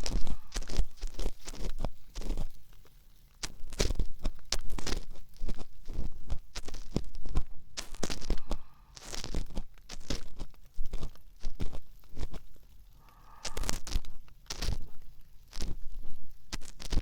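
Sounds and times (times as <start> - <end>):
ear pick scraping in ear: 0.0 - 2.4, 4.7 - 17.0.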